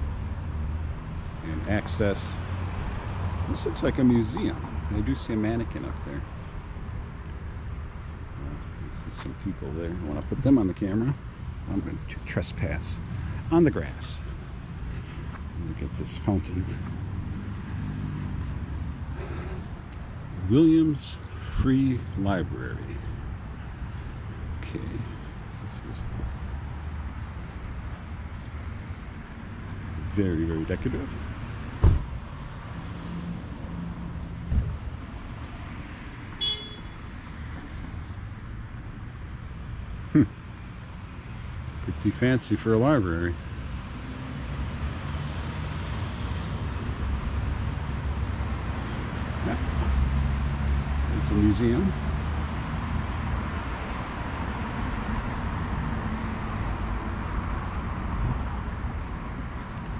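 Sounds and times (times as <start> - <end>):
street traffic rumble: 0.0 - 59.9.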